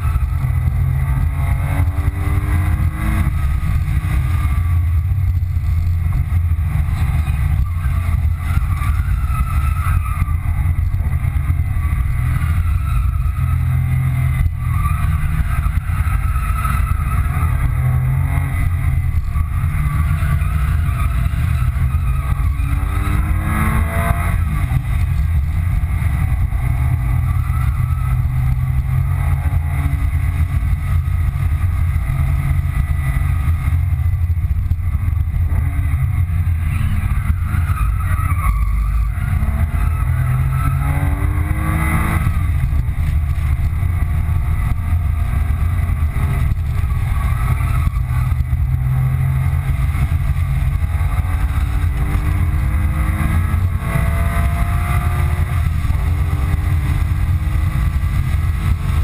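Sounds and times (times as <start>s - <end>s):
car engine revving: 0.0s - 59.0s
road and tyre rumble: 0.0s - 59.0s.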